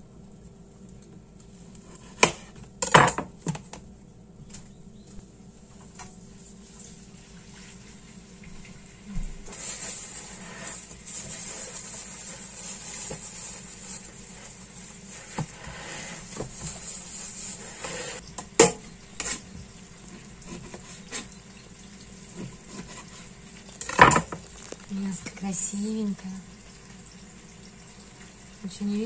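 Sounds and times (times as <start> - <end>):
steady kitchen hiss: 0.0 - 29.0.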